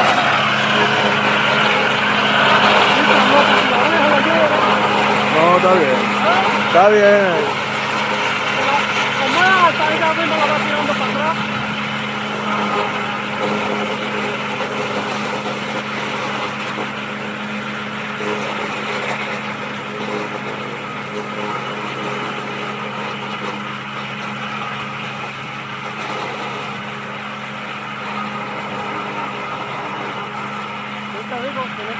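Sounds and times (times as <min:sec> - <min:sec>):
disc mower running: 0:00.0 - 0:31.9
tractor diesel engine running: 0:00.0 - 0:31.9.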